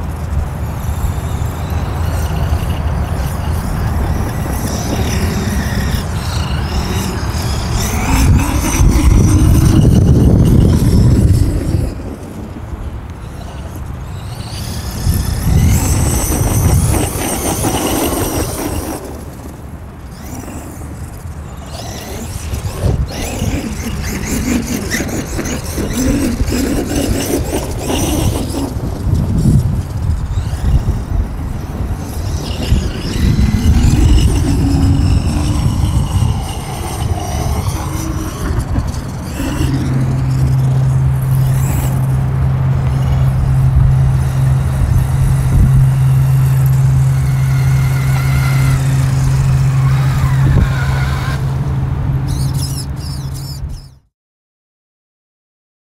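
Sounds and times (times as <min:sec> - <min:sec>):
steady low hum: 0:00.0 - 0:53.9
electric motor whining: 0:00.0 - 0:54.0.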